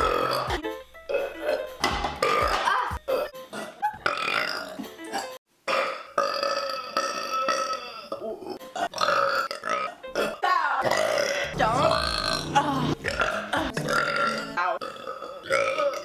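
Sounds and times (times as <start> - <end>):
woman burping: 0.0 - 16.0.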